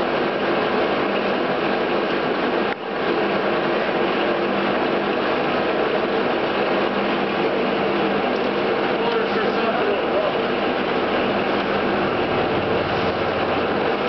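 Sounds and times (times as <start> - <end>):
lathe gear drive humming: 0.0 - 14.0.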